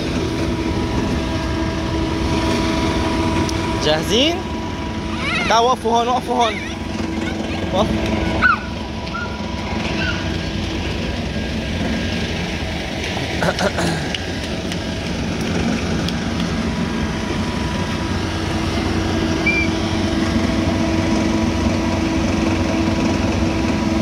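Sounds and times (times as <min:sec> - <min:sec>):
van engine running: 0:00.0 - 0:24.0.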